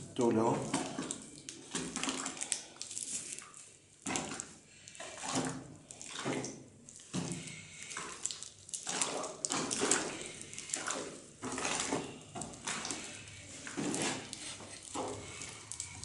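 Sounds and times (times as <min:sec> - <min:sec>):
stick swishing thick liquid: 0:00.4 - 0:16.0.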